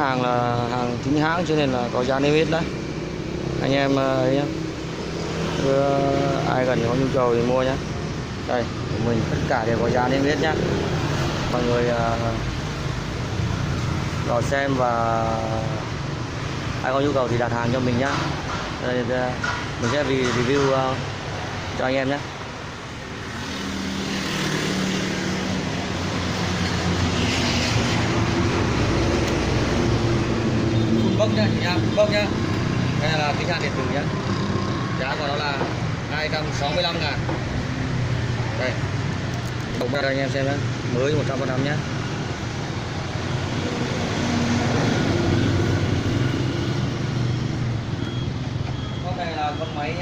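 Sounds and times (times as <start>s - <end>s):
road traffic noise: 0.0s - 50.0s
vehicle engine humming: 0.0s - 50.0s.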